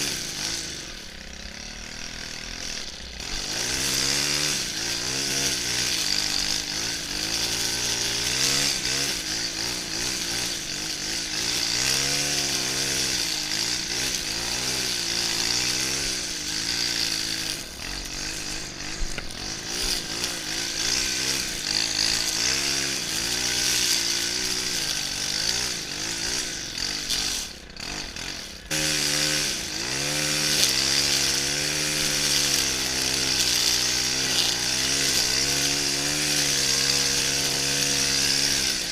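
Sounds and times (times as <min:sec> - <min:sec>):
brushcutter engine revving: 0:00.0 - 0:38.9.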